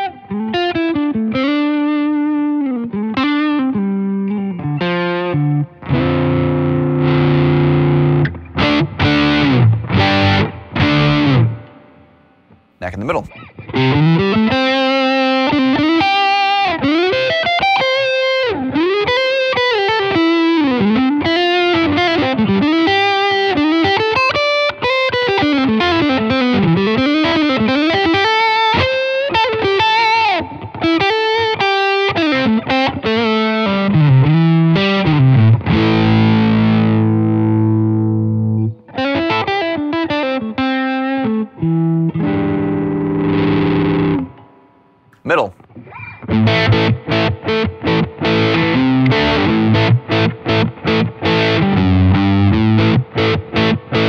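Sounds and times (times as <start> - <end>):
overdriven electric guitar lead: 0.0 - 54.0.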